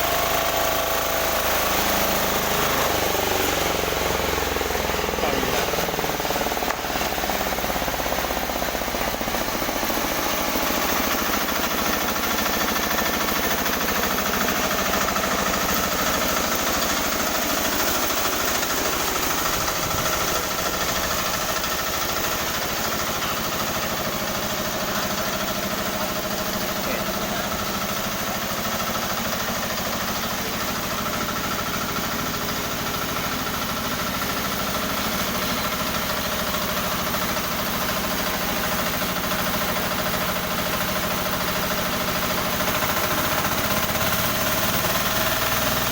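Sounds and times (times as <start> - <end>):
sawmill machine running: 0.0 - 45.9.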